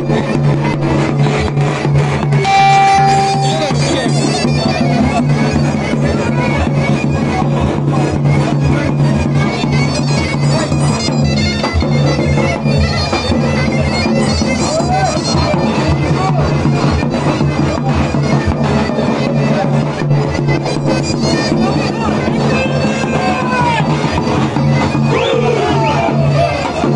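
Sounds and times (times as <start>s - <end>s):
rapid drum beats: 0.0s - 26.9s
reedy shawm melody: 0.2s - 26.9s.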